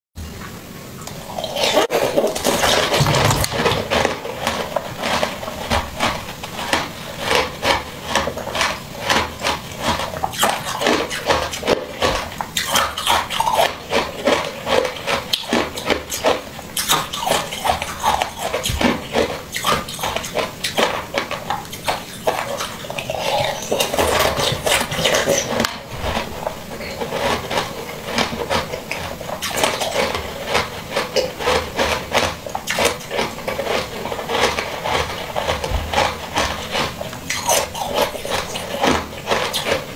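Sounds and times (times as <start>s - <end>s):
person chewing jelly: 0.3s - 39.9s.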